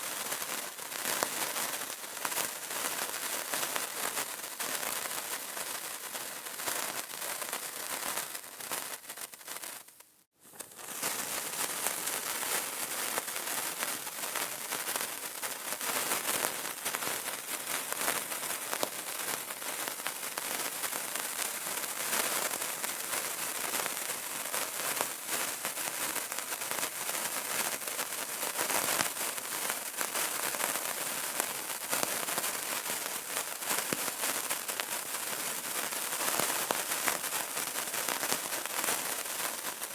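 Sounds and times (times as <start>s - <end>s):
candle crackling: 0.0s - 39.9s.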